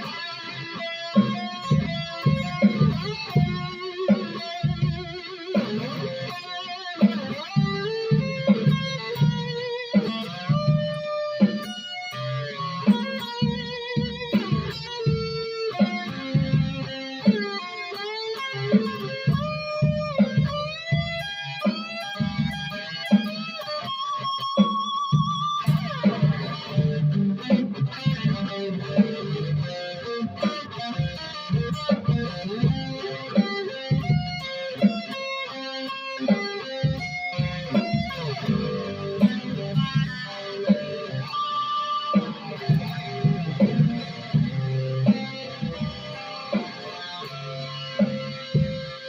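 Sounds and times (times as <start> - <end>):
electric guitar lead with bends: 0.0 - 49.0.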